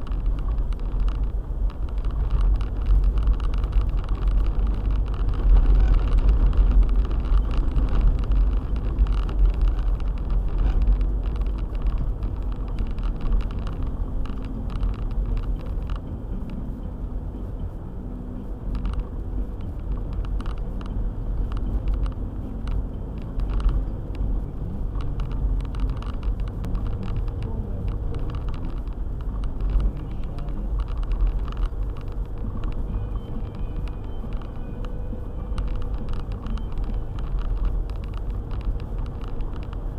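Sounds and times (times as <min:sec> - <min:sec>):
small irregular knocks and clicks: 0:00.0 - 0:16.7, 0:18.5 - 0:39.9
car rumbling on snowy road: 0:00.0 - 0:39.9.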